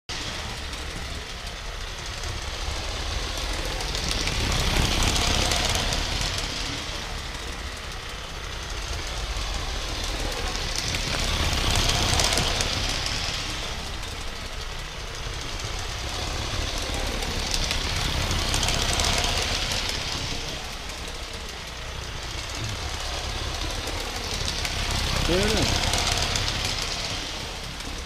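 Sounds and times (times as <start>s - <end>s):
steam hissing: 0.1s - 28.0s
steam locomotive chuffing: 0.1s - 28.0s.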